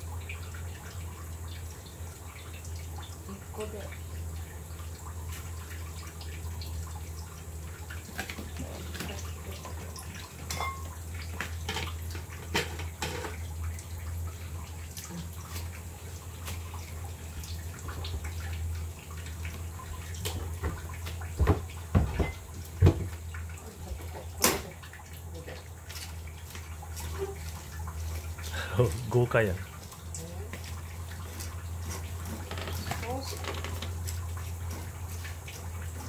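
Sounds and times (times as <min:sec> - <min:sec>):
running water: 0:00.0 - 0:36.0.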